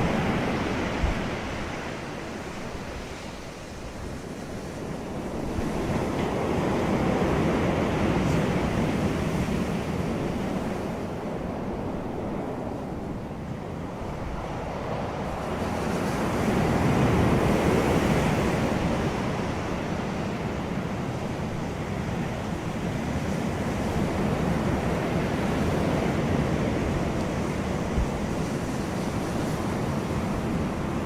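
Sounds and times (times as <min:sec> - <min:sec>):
wind blowing over microphone: 0:00.0 - 0:31.0.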